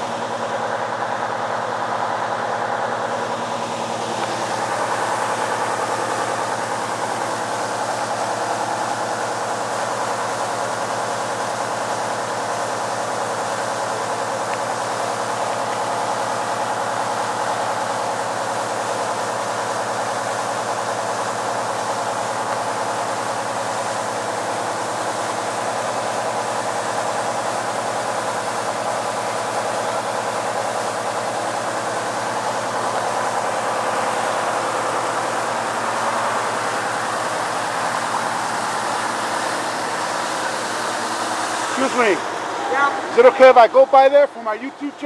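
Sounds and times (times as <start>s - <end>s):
water gushing from fire hydrant: 0.0s - 45.0s.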